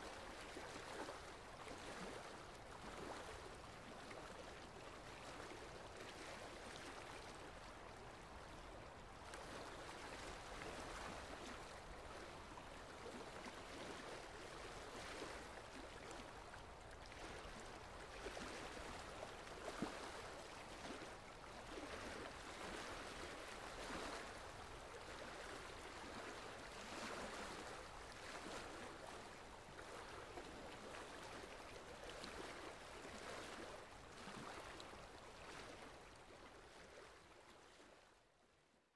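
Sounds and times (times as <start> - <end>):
small waves lapping: 0.0 - 38.3.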